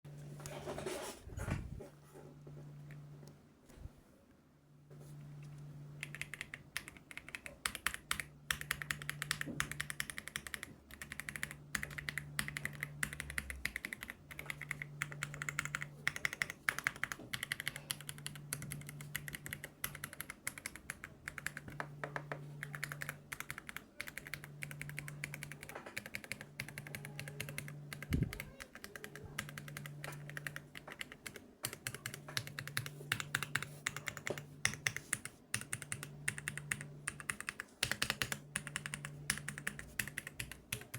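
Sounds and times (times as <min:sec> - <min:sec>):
mechanical keyboard typing: 0:06.0 - 0:40.9.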